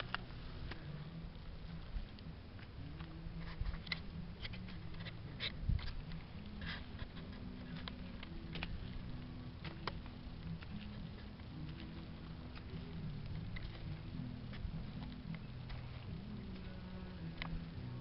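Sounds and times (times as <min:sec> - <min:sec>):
footsteps on dirt path: 0:00.0 - 0:17.9
low steady hum: 0:00.0 - 0:18.0.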